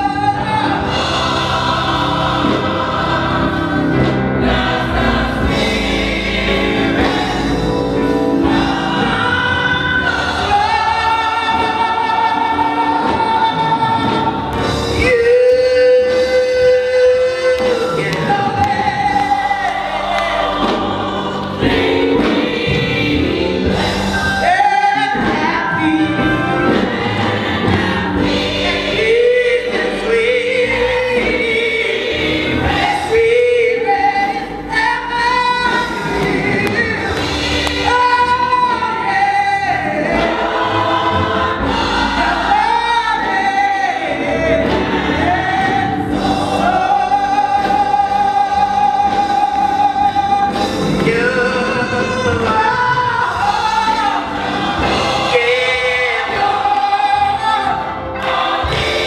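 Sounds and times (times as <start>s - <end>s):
women's choir singing a hymn: 0.0s - 59.0s.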